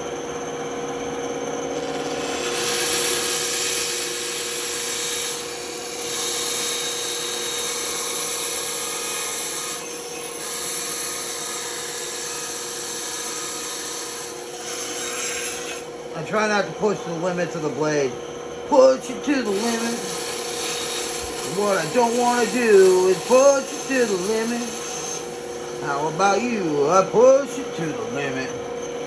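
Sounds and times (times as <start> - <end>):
band saw cutting wood: 1.8 - 29.0.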